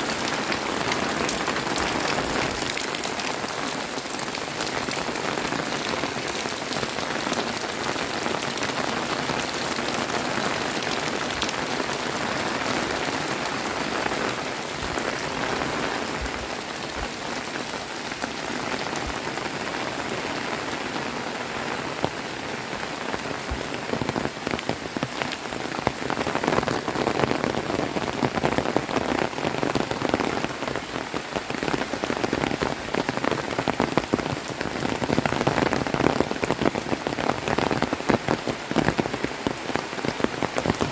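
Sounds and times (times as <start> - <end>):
heavy rain hiss: 0.0 - 40.9
raindrops splashing: 0.0 - 40.9.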